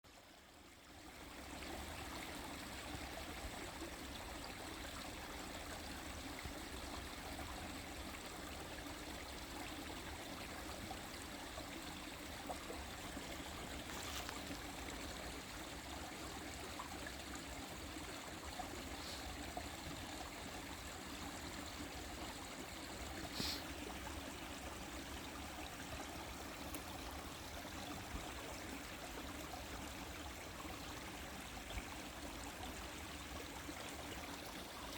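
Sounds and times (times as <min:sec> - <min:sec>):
stream babbling over stones: 0:00.2 - 0:34.9.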